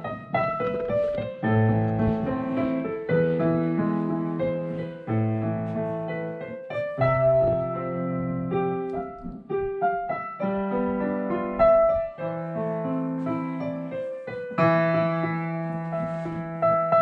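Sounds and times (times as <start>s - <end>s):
digital piano chords: 0.0s - 17.0s.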